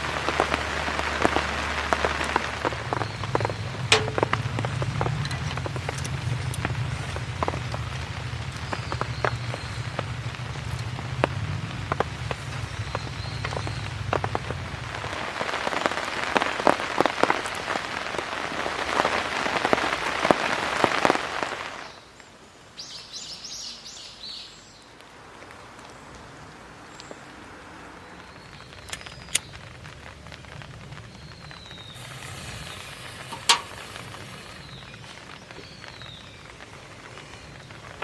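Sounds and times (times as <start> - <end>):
rain pattering on a tarp: 0.0 - 38.0.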